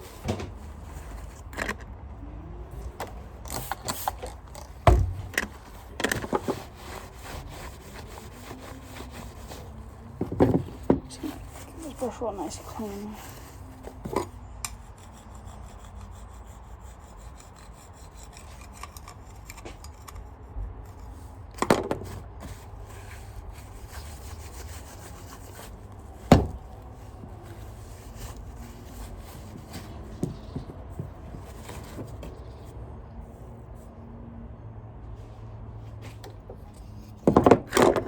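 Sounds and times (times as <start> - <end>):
brush roll rubbing and scraping: 0.0 - 1.9, 2.8 - 33.8.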